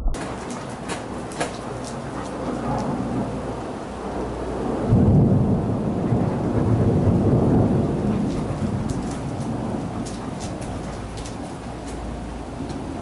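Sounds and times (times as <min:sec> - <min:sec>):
rolling thunder: 0:00.0 - 0:13.0
steady rain: 0:00.2 - 0:13.0.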